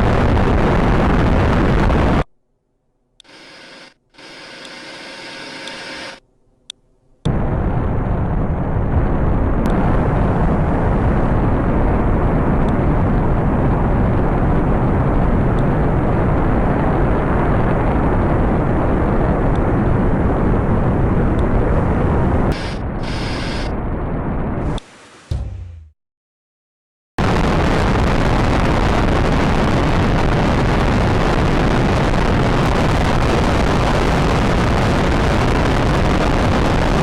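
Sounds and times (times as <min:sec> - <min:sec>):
rocket engines roaring: 0:00.0 - 0:02.3, 0:07.2 - 0:25.1, 0:27.2 - 0:37.0.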